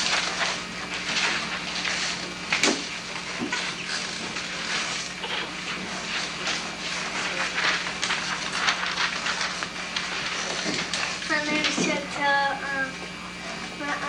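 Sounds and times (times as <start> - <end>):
tape hiss and low hum: 0.0 - 14.0.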